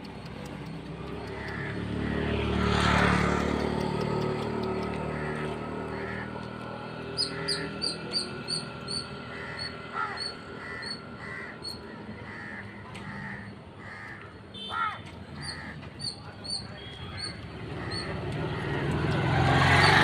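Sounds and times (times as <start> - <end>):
vehicle passing: 0.1 - 14.1, 15.1 - 20.0
birds calling: 0.1 - 20.0.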